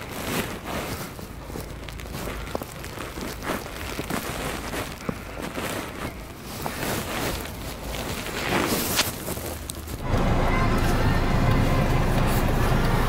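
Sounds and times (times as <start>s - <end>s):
footsteps in snow: 0.0s - 13.0s.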